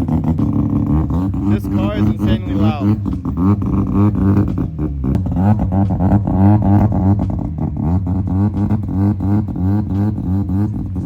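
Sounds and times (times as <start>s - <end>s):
rotary engine idling lumpy: 0.0s - 11.0s.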